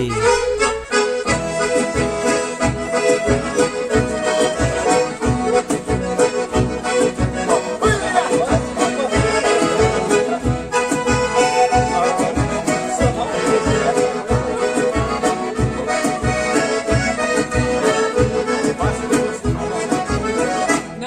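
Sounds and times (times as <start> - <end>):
accordion dance music: 0.0 - 21.0.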